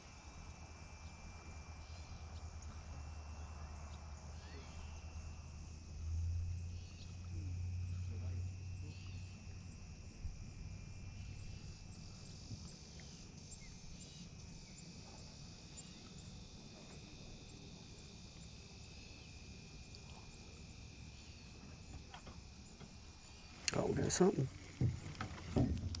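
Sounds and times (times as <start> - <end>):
faint insects chirring: 0.0 - 26.0.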